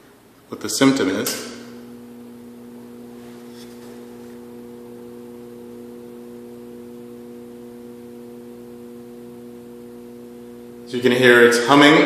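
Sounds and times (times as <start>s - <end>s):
garage door opener motor humming: 1.3s - 11.8s.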